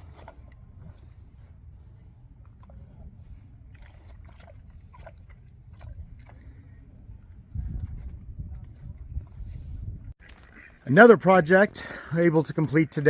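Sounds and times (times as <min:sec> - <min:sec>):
animal chewing food: 0:00.0 - 0:10.5.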